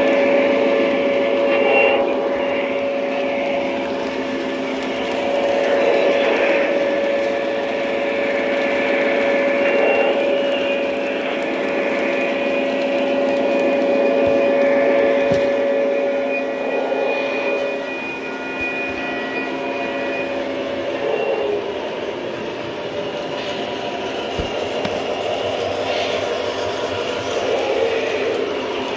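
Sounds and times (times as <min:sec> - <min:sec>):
model train motor whine: 0:00.0 - 0:28.9
wheels clicking on rails: 0:00.0 - 0:28.9.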